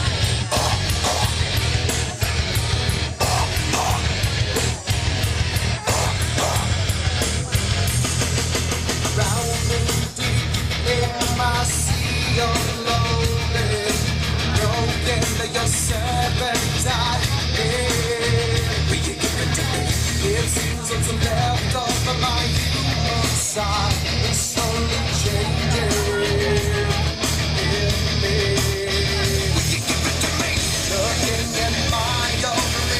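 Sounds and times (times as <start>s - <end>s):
person singing: 0.0s - 5.0s, 5.6s - 7.6s, 9.0s - 32.9s
heavy rock music: 0.0s - 32.9s.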